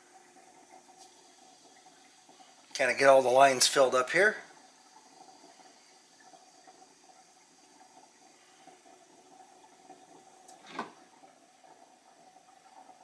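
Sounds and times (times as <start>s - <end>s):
water dispenser filling: 0.0s - 13.0s.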